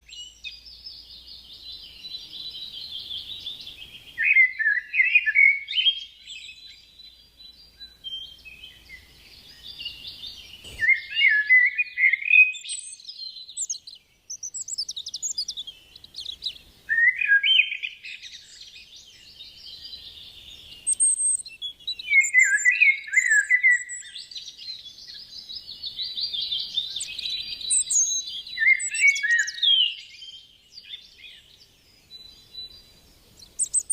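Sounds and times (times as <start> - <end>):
warbling bird song: 0.0 - 33.9.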